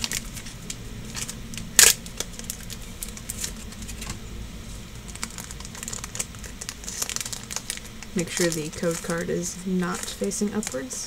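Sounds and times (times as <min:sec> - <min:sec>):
foil pack crinkling and clicking: 0:00.0 - 0:04.2, 0:05.0 - 0:11.0.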